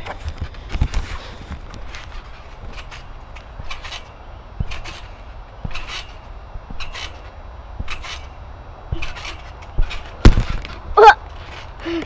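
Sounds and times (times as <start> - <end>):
trampoline springs rasping: 0.0 - 12.0
trampoline mat thuds: 0.1 - 11.7.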